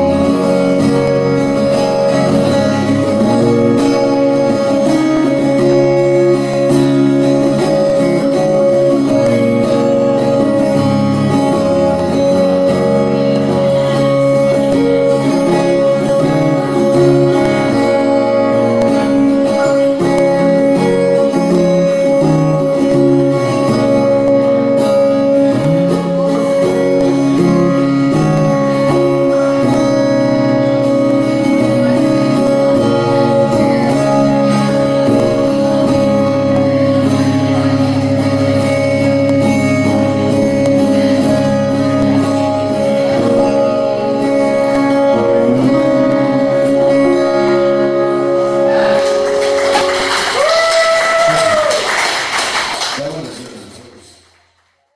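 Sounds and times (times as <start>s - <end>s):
live song with sustained chords: 0.0s - 54.8s.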